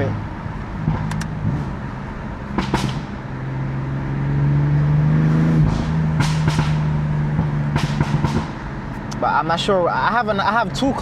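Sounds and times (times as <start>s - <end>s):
car engine droning while driving: 0.0s - 11.0s.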